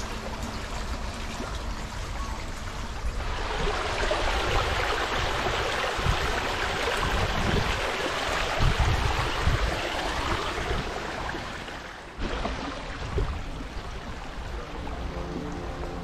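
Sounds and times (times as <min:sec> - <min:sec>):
small waterfall rushing: 0:00.0 - 0:16.0.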